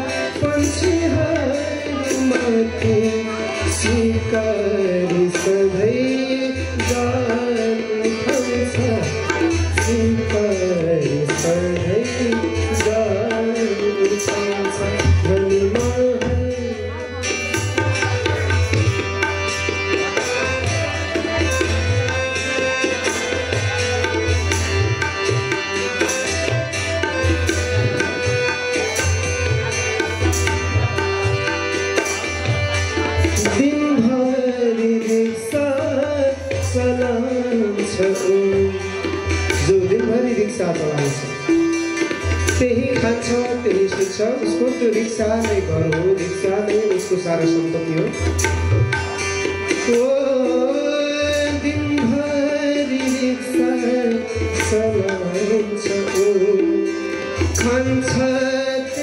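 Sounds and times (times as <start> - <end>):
harmonium: 0.0 - 59.0
tabla beat: 0.0 - 59.0.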